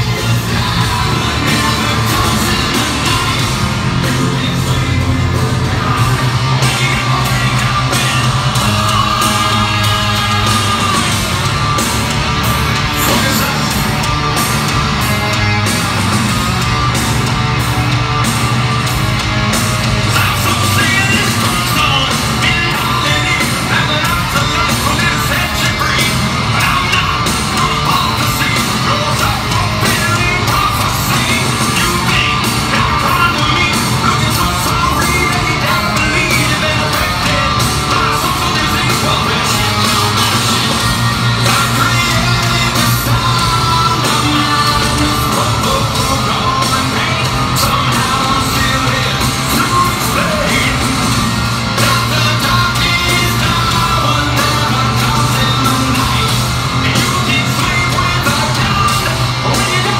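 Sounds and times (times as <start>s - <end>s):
lead vocal singing: 0.0s - 16.6s, 19.8s - 59.9s
distorted electric guitars: 0.0s - 59.9s
drums: 0.0s - 59.9s
live hard rock band: 0.0s - 59.9s.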